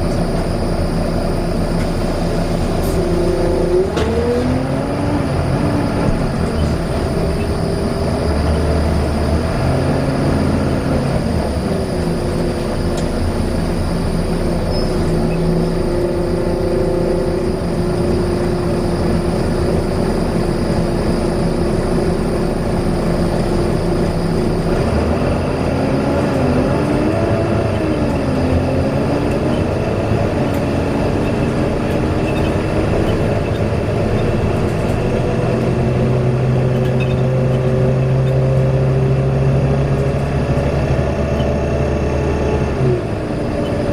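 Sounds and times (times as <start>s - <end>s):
bus engine running: 0.0s - 43.9s
loud whine: 0.0s - 43.9s.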